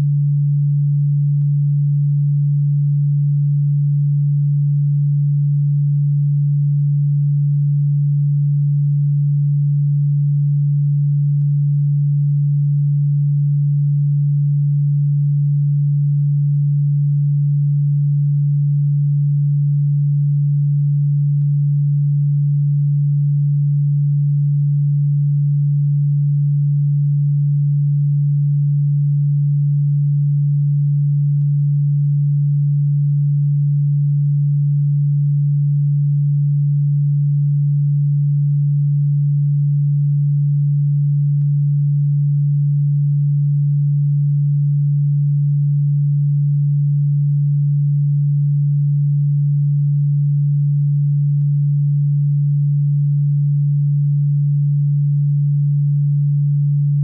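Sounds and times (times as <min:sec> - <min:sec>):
low electronic sine tone: 0:00.0 - 0:57.0.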